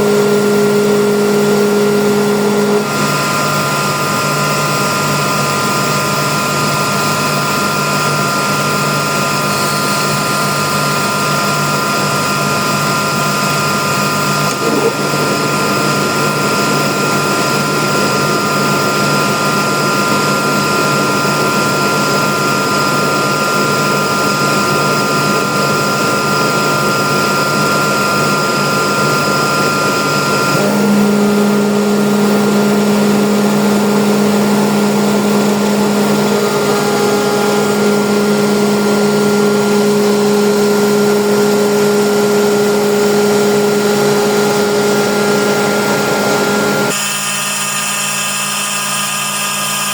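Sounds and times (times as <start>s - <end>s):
air compressor humming: 0.0s - 49.9s.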